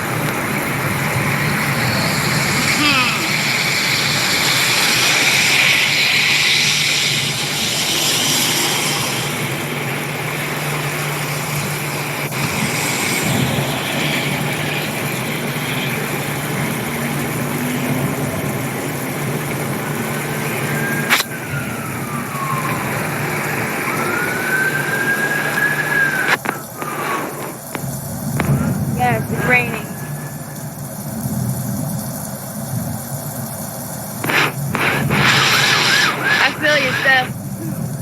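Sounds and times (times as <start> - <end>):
wailing siren tone: 0.0 - 26.8, 28.5 - 31.5, 34.3 - 37.8
road traffic engine hum: 0.0 - 33.2, 33.8 - 38.0
rain: 0.0 - 38.0.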